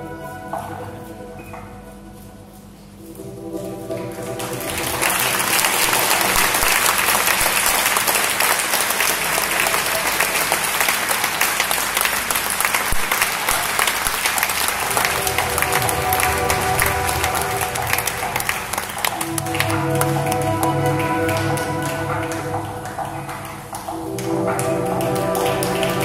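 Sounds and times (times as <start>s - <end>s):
faint music: 0.0s - 26.0s
audience applauding: 3.8s - 26.0s.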